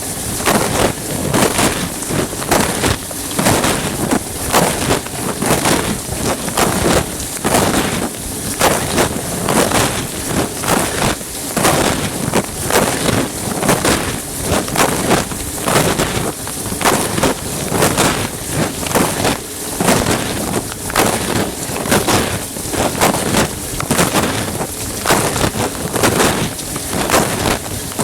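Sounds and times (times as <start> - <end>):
water spraying inside dishwasher: 0.0 - 28.0.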